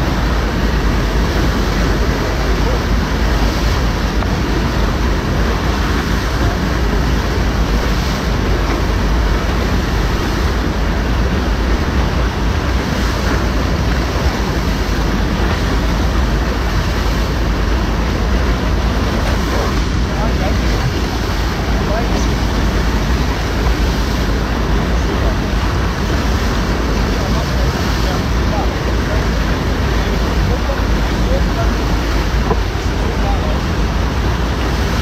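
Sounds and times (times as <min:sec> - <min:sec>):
churning whitewater rushing: 0:00.0 - 0:35.0.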